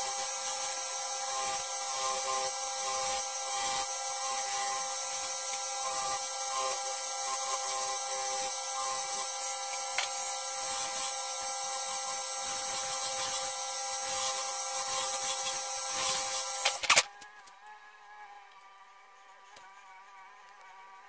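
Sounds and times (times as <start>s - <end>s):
wood lathe motor whine: 0.0s - 20.5s.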